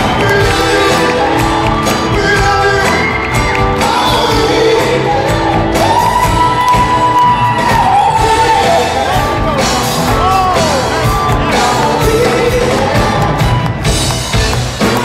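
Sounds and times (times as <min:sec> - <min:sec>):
person singing: 0:00.0 - 0:13.9
live band with horn section: 0:00.0 - 0:15.0.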